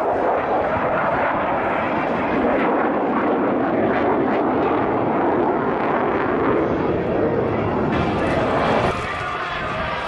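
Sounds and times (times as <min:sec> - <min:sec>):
jet engine noise: 0:00.0 - 0:10.0.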